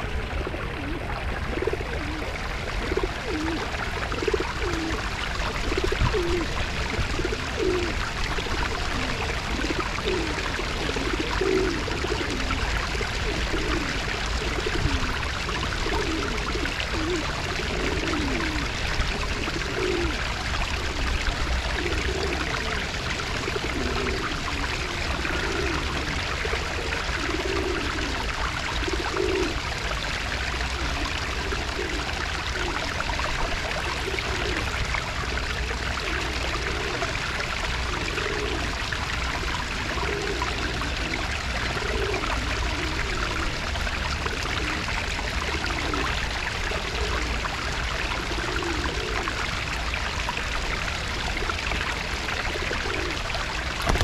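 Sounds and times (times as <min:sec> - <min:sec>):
pigeons cooing: 0:00.0 - 0:54.0
running water rushing: 0:00.0 - 0:54.0.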